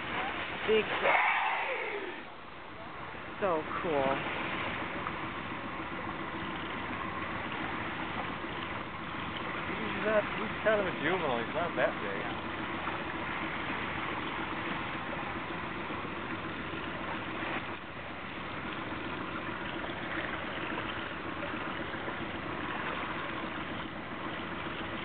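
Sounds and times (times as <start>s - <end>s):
boat engine idling: 0.0s - 25.0s
water wash: 0.0s - 25.0s.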